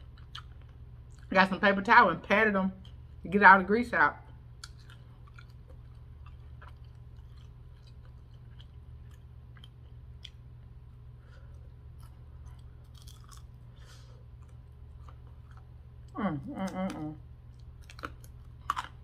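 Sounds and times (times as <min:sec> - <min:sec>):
chewing crispy chicken: 0:00.0 - 0:01.4, 0:04.5 - 0:19.0
steady low hum: 0:00.0 - 0:19.0.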